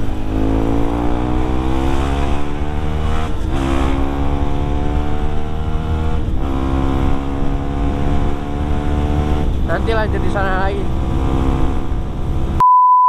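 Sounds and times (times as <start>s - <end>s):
motorcycle engine accelerating: 0.0s - 12.6s.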